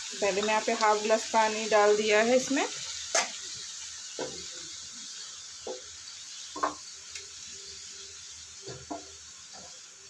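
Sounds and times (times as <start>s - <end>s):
food sizzling in pan: 0.0s - 10.0s.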